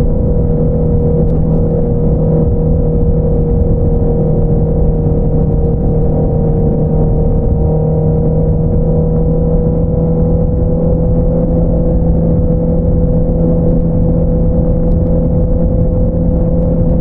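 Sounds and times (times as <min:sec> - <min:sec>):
motorcycle engine at steady revs: 0:00.0 - 0:17.0.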